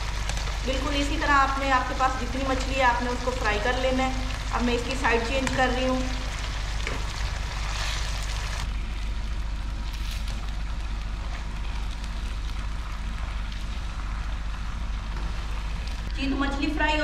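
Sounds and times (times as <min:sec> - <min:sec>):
fish deep-frying in oil: 0:00.0 - 0:17.0
low steady hum: 0:00.0 - 0:17.0.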